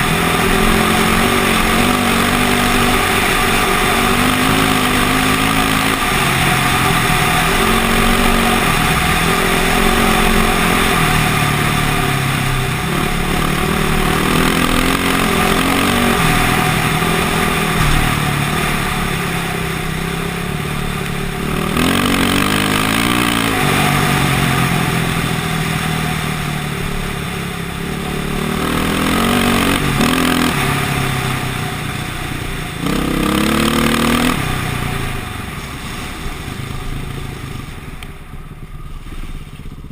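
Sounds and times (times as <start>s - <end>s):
motocross bike engine revving: 0.0s - 37.7s.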